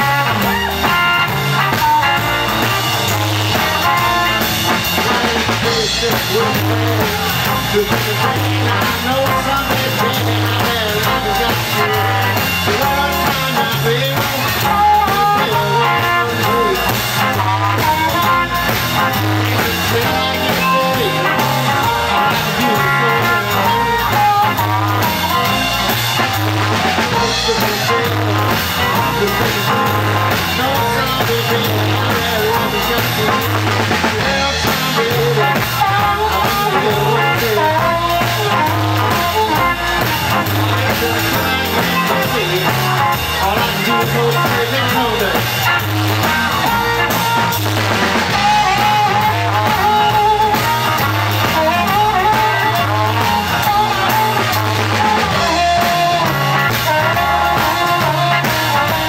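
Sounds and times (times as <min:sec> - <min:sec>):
blues harmonica wailing: 0:00.0 - 0:59.0
electric blues band playing: 0:00.0 - 0:59.0.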